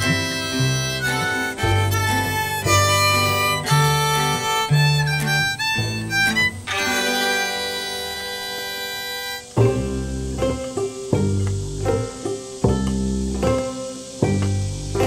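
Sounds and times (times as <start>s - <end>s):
old-time country fiddle music: 0.0s - 15.0s.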